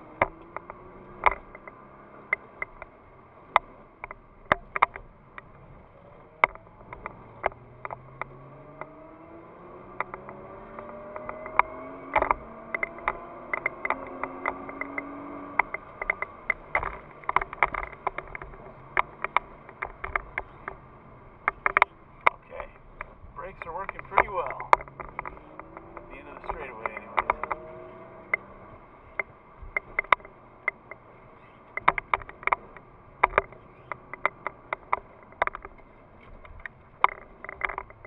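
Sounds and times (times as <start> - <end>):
car engine accelerating: 0.0 - 38.0
sharp clicks: 0.1 - 5.6, 6.3 - 38.0.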